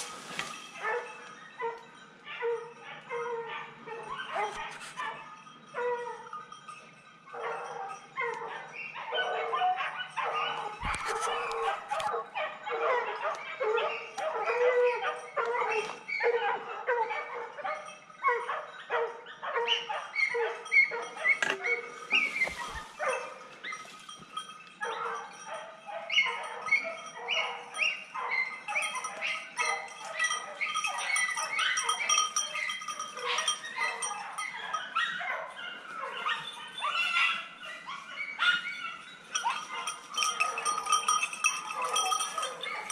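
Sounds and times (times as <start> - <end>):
dogs yapping: 0.0 - 42.9.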